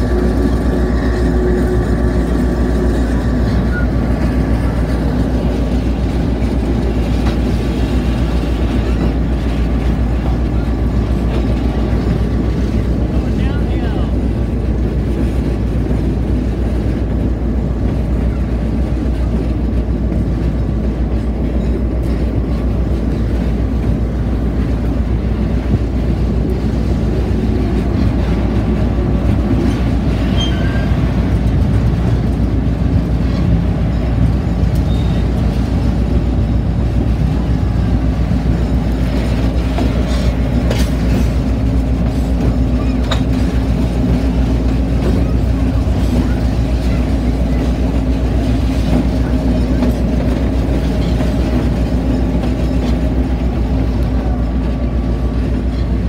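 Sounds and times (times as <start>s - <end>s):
locomotive engine hum: 0.0s - 56.0s
wheels on rail: 0.0s - 56.0s.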